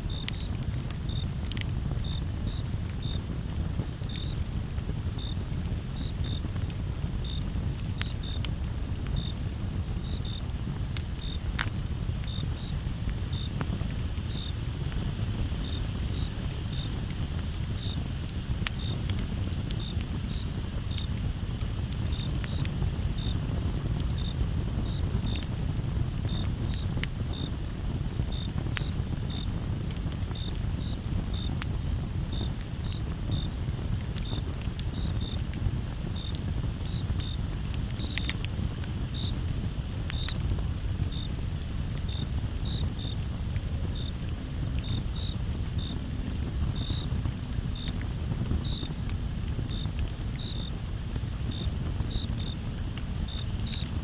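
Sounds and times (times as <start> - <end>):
campfire crackling and popping: 0.0 - 54.0
crickets chirping: 0.0 - 54.0.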